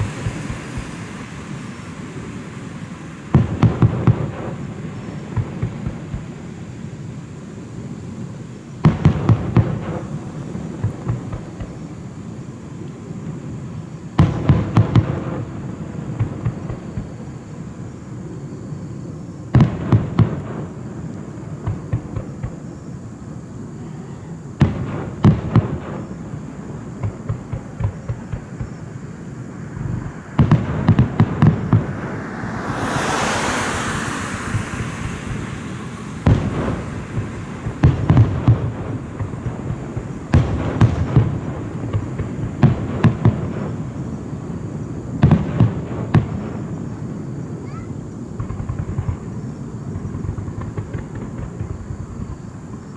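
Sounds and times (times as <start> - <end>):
fireworks booming: 0.0 - 52.9
hissing crackle of fireworks: 0.0 - 52.9.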